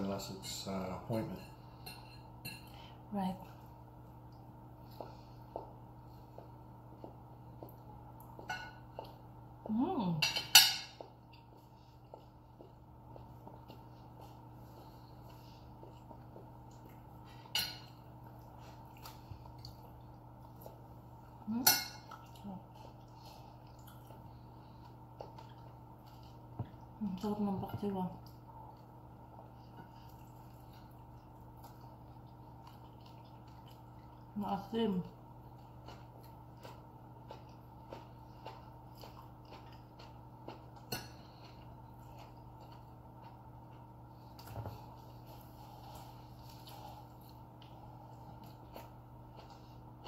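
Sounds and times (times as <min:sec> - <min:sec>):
soft chewing: 0:00.0 - 0:50.0.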